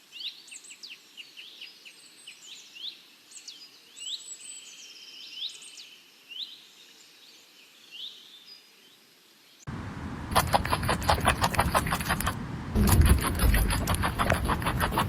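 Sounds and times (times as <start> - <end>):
faint outdoor hiss: 0.2 - 15.0.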